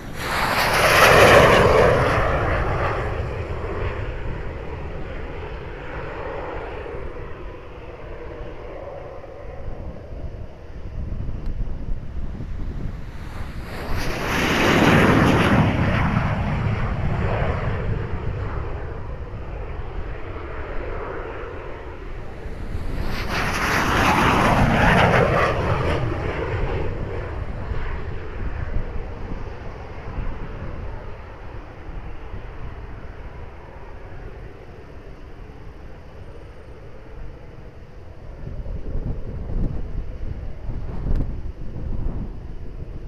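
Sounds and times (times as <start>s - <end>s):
jets taking off and passing: 0.0s - 11.0s, 12.3s - 39.3s.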